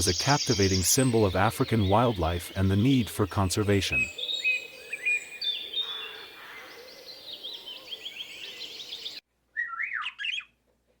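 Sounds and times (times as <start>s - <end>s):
birds chirping and trilling: 0.0s - 10.6s
outdoor background noise: 0.0s - 11.0s.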